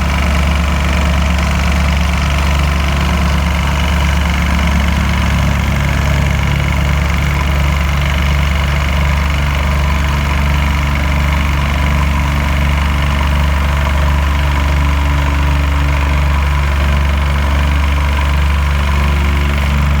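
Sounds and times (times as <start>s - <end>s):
heavy engine idling: 0.0s - 20.0s.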